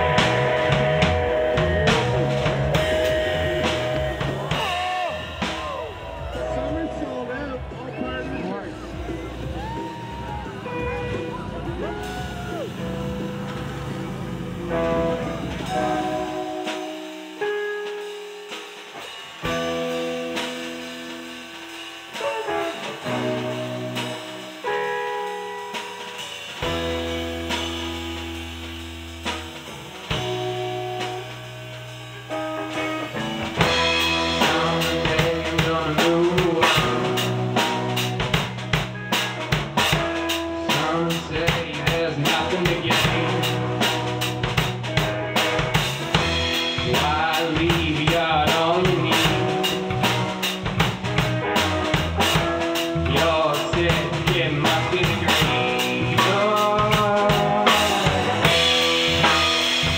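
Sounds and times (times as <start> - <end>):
ringing electric guitar chords: 0.0 - 59.9
rock band with drum beat: 0.0 - 59.9.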